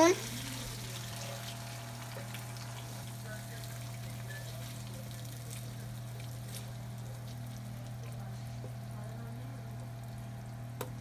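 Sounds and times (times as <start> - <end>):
sauce sizzling in a frying pan: 0.0 - 10.8.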